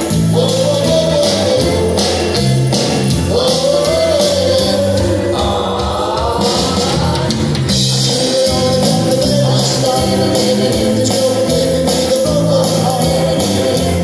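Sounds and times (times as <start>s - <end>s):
group singing: 0.0s - 14.0s.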